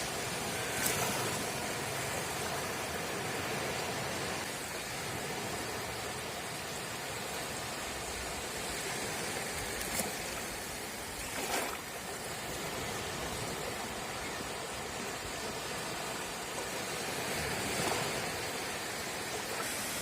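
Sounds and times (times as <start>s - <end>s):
small sea waves washing: 0.0s - 20.0s.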